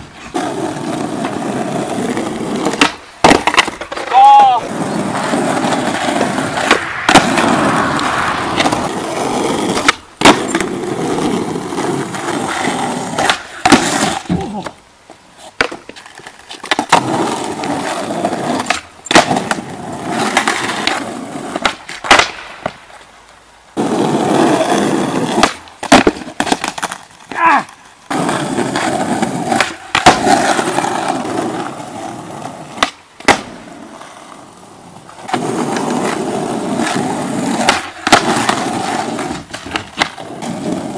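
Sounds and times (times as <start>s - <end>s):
skateboard tail popping: 0.0s - 40.9s
skateboard wheels rolling on asphalt: 0.0s - 40.9s
skateboard clattering on ground: 0.2s - 40.9s.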